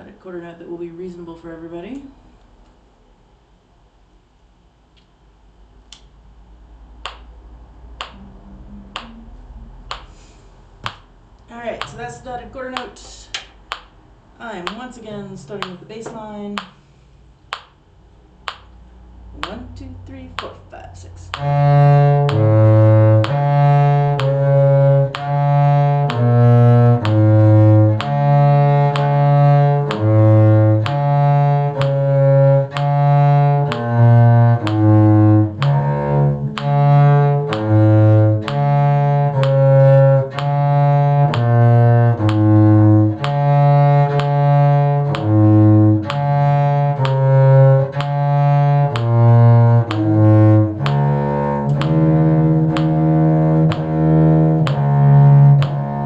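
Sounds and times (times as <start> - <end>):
low bowed string bass line: 5.9 - 16.7, 18.3 - 56.0.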